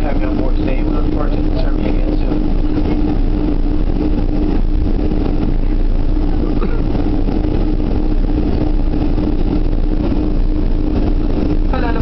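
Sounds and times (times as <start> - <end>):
airliner taxiing rumble: 0.0 - 12.0
constant hum: 0.0 - 12.0.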